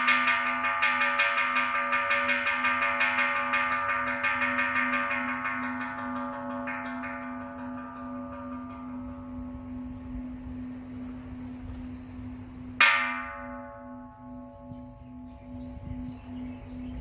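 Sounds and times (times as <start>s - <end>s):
temple bell struck with mallet: 0.0s - 11.9s, 12.7s - 17.0s
low wavering hum: 0.0s - 17.0s.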